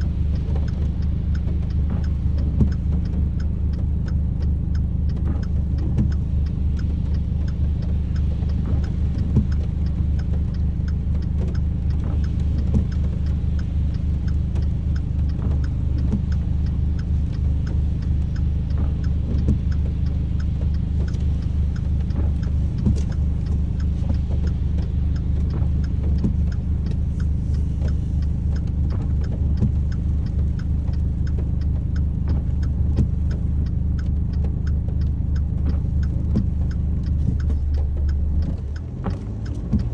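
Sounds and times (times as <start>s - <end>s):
raindrops ticking: 0.0s - 39.9s.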